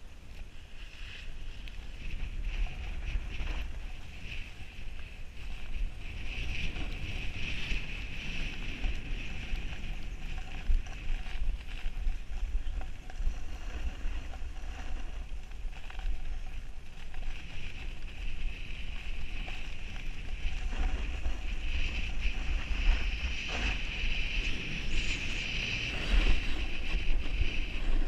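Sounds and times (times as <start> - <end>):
skis scraping over packed snow: 0.0 - 28.0
wind buffeting microphone: 0.0 - 28.0.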